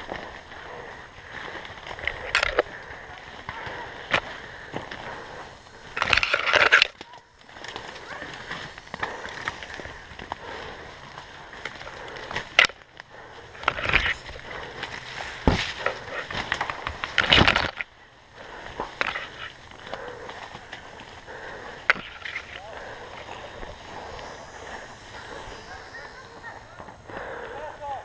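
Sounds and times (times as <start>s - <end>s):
rustling and crunching of brush: 0.0s - 28.0s.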